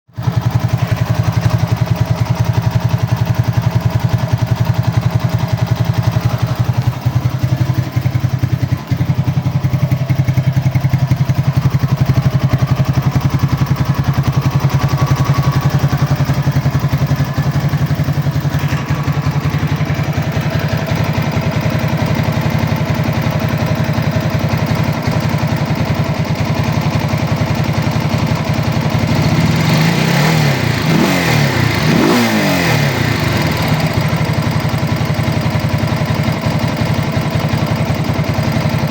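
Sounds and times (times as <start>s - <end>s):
engine idling: 0.1s - 38.9s
engine knocking: 0.1s - 38.9s.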